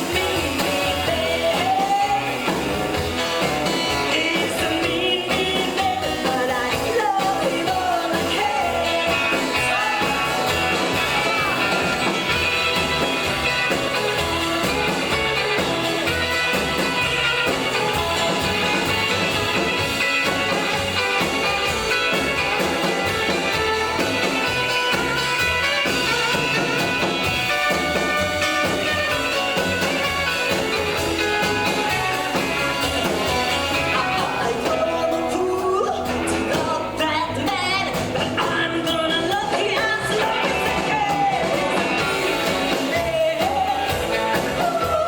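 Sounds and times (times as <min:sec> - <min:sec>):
live rockabilly band playing: 0:00.0 - 0:45.0.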